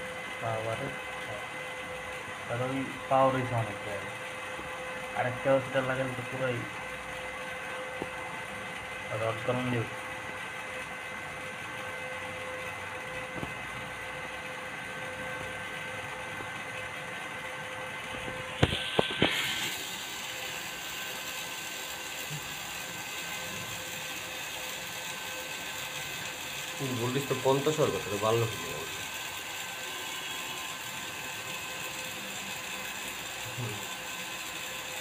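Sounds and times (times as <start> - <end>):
cooling fan humming and rattling: 0.0 - 35.0.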